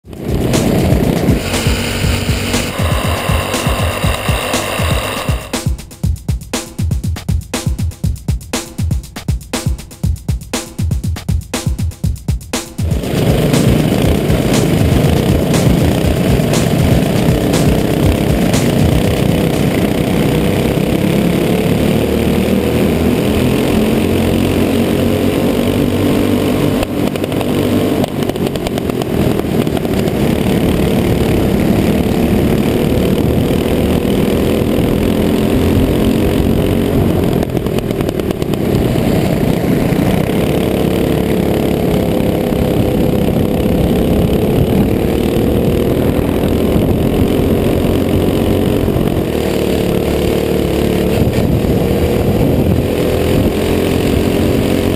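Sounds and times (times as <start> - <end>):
kart engine racing: 0.0 - 5.7, 12.8 - 54.9
other kart engines running: 0.0 - 5.7, 12.8 - 54.9.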